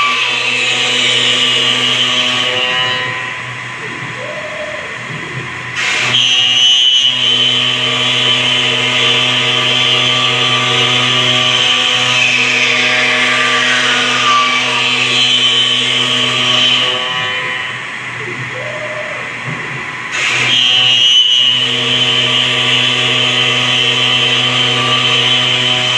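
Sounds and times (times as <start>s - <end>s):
router spindle motor hum: 0.0s - 4.2s, 5.0s - 18.2s, 20.1s - 25.9s
router bit cutting wood whine: 0.0s - 18.5s, 20.0s - 25.9s.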